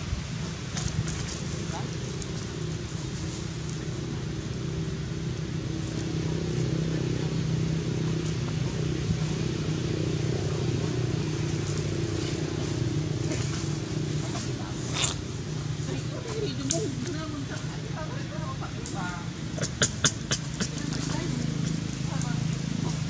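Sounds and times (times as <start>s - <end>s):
engine running drone: 0.0s - 23.0s.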